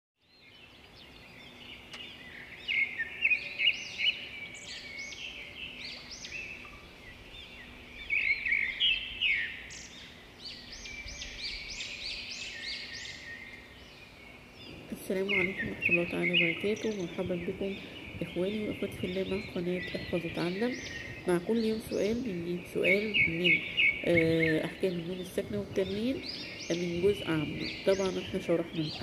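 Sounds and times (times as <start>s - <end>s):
small birds chirping: 0.2s - 29.0s.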